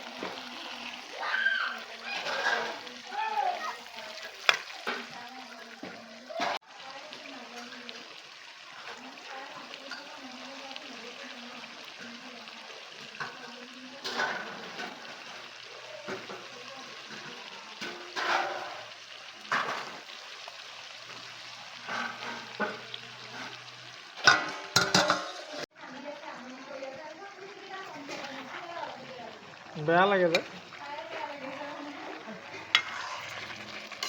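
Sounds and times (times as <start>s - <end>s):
spoon scraping a pan: 0.0s - 1.1s, 1.7s - 6.6s, 7.2s - 25.7s, 27.8s - 34.0s
food sizzling in a pan: 0.0s - 34.0s.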